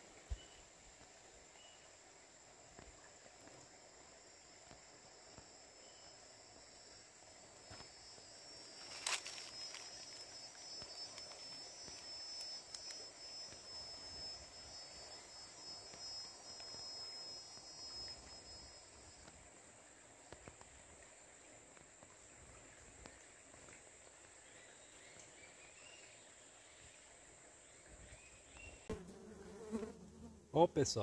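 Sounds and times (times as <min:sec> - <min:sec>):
insects trilling: 0:00.0 - 0:31.0
lower insect trill: 0:00.0 - 0:31.0.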